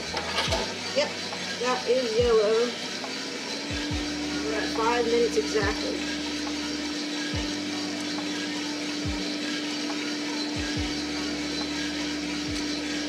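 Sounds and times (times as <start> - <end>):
blower and drum whirring: 0.0 - 13.0
burner hiss: 0.0 - 13.0
constant hum: 0.0 - 13.0.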